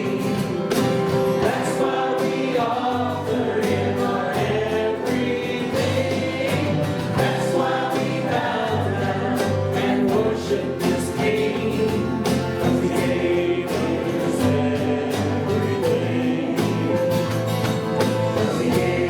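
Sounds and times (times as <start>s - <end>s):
singers holding long notes: 0.0s - 19.0s
worship band playing: 0.0s - 19.0s.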